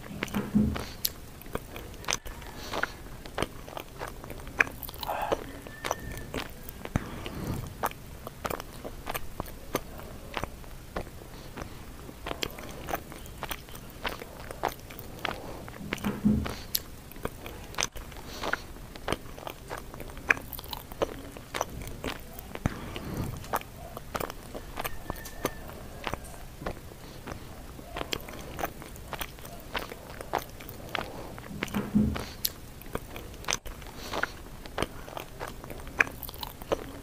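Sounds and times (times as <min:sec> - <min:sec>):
mouth clicks and smacks: 0:00.0 - 0:37.0
person chewing leaves: 0:00.0 - 0:37.0.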